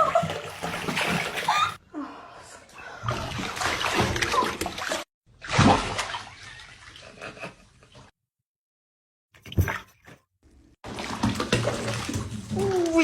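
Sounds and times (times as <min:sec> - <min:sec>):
water splashing and sloshing: 0:00.0 - 0:08.2, 0:09.4 - 0:13.0.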